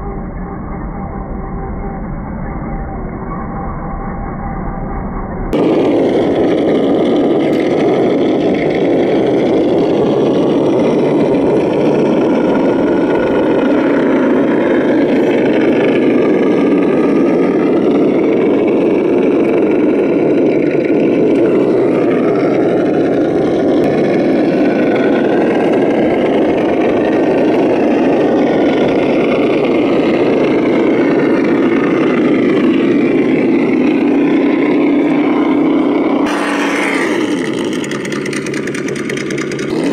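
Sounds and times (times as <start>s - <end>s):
toy truck engine: 5.6s - 39.9s.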